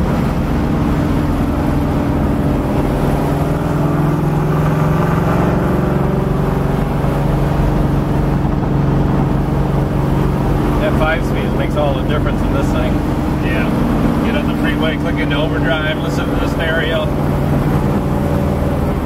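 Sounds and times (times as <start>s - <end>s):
car engine cruising from inside cabin: 0.0s - 19.0s.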